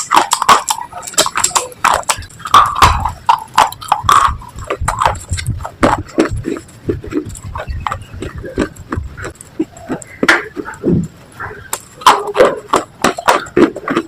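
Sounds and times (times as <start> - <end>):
biting and chewing brittle slate: 0.0 - 14.0.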